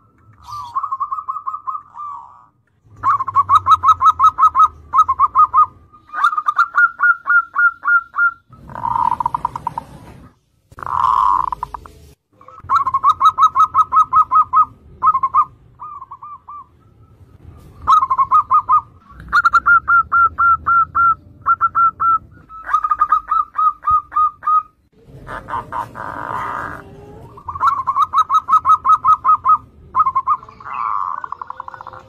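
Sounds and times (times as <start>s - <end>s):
doves cooing: 0.4s - 16.7s, 17.8s - 32.0s.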